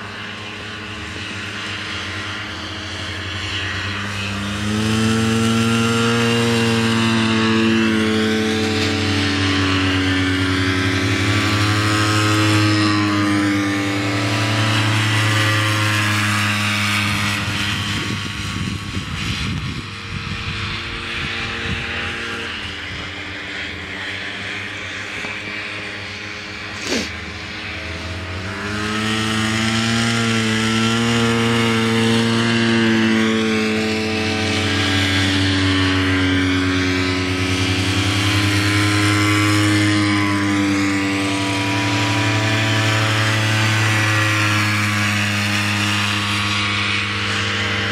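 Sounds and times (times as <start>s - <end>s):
snowmobile engines racing past: 0.0s - 47.9s.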